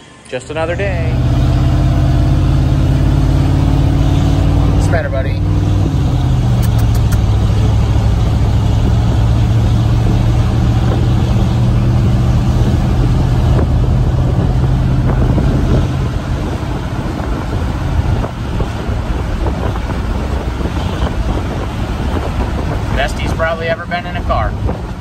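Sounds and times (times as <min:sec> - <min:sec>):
road and wind noise: 0:00.0 - 0:25.0
truck engine drone: 0:00.0 - 0:25.0.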